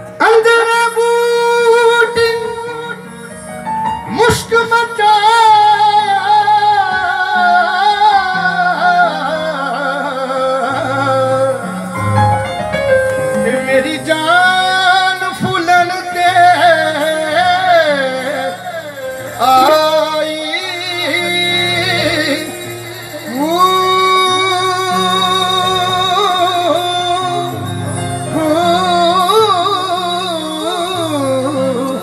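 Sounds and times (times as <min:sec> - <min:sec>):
keyboard low chords: 0:00.0 - 0:32.0
man singing long notes: 0:00.1 - 0:32.0.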